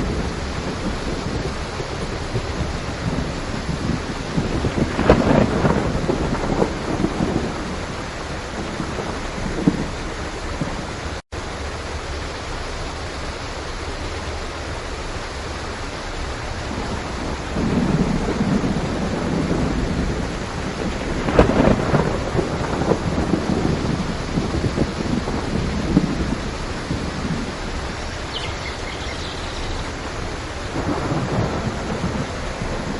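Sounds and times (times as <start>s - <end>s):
rolling thunder: 0.0s - 11.2s, 16.6s - 32.9s
heavy rain: 0.0s - 32.9s.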